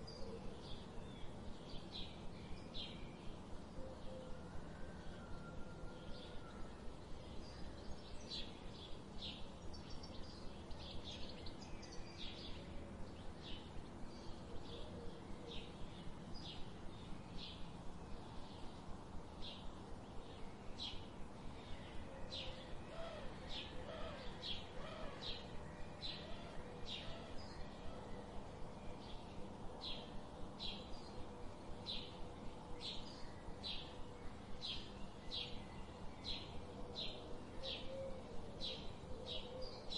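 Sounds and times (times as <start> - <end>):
steady low background noise: 0.0 - 39.9.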